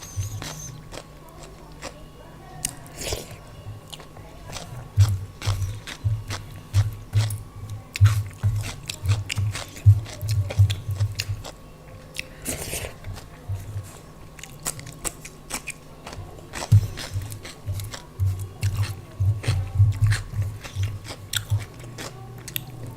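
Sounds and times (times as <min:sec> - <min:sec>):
chewing food: 0:00.0 - 0:22.9.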